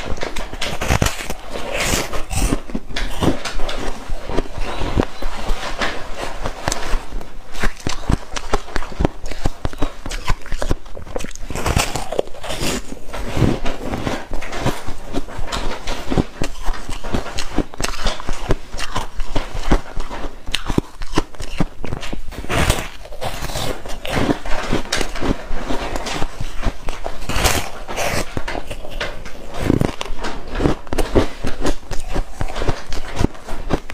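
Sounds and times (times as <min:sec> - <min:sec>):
ice being chewed: 0:00.0 - 0:33.9.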